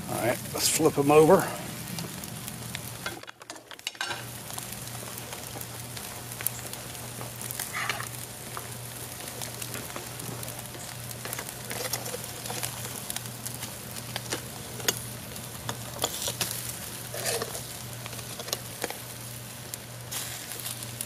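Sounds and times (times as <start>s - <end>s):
steaks sizzling on coals: 0.0s - 21.0s
wood fire crackling: 0.0s - 21.0s.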